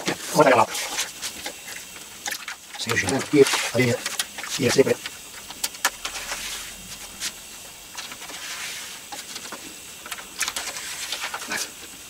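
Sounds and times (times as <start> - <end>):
plastic rustling and crinkling: 0.0 - 12.0.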